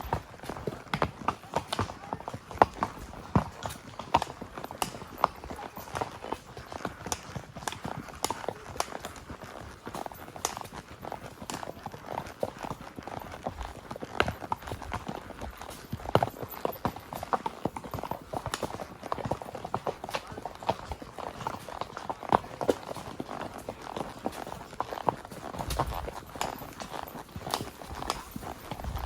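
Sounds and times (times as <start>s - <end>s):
horse hoofbeats: 0.0s - 29.0s.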